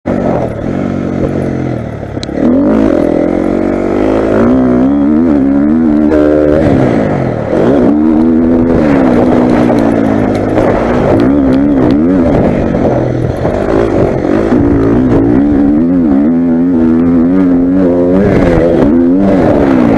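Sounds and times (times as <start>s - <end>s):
motocross bike engine revving: 0.1s - 19.9s.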